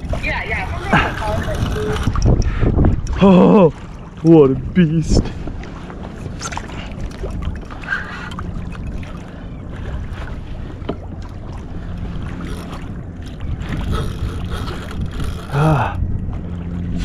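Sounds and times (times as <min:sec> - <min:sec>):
water lapping against hull: 0:00.0 - 0:17.0
wind buffeting microphone: 0:00.0 - 0:17.0.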